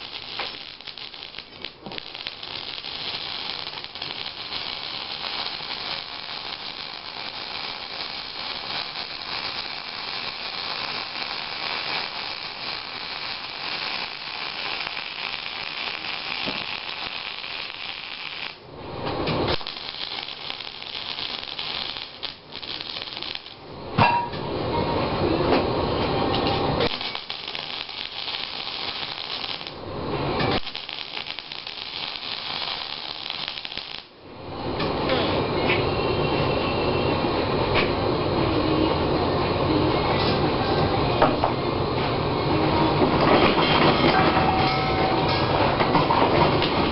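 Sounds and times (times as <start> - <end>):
welding arc crackling hiss: 0.0 - 46.9.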